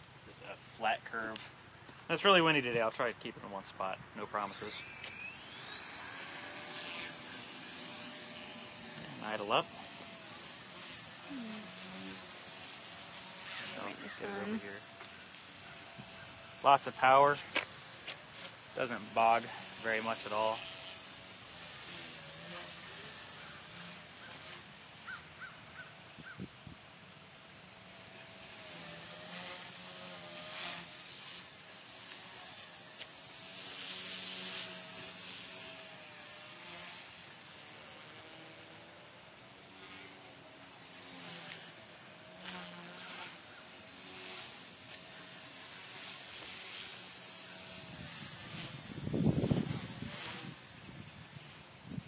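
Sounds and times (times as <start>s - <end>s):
rc helicopter rotor whine: 0.0s - 52.0s.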